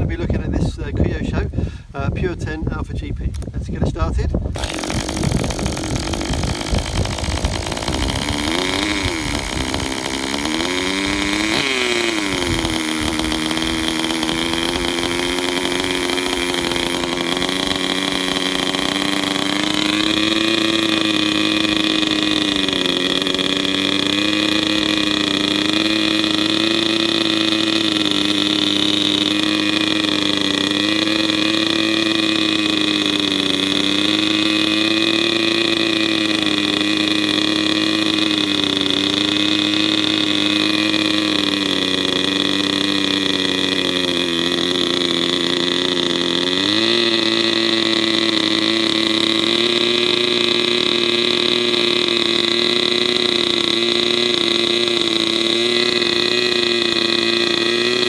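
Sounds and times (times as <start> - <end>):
model car engine revving and idling: 0.0 - 58.0.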